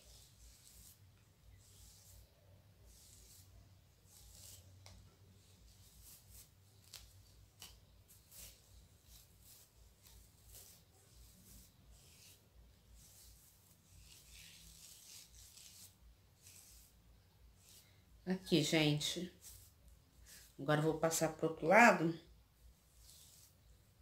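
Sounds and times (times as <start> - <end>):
fingers rubbing through wet hair: 0.0 - 22.0, 22.7 - 24.0.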